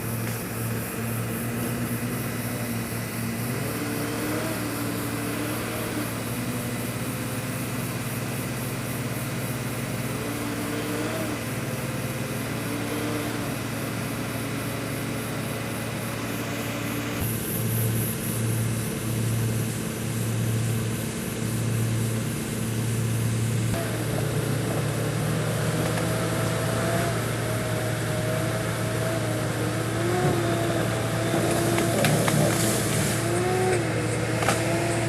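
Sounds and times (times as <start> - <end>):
excavator diesel engine running: 0.0 - 35.0
hydraulic whine: 0.0 - 35.0.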